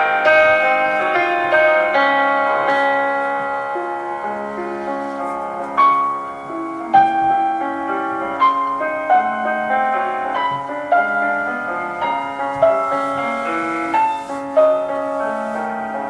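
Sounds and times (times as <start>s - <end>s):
classical piano music: 0.0s - 16.0s.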